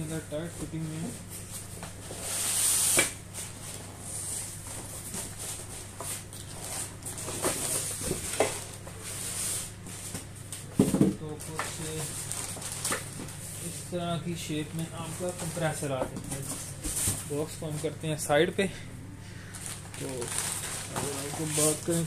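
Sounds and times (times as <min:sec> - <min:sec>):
foam and cardboard rustling: 0:00.3 - 0:18.0, 0:19.6 - 0:22.0.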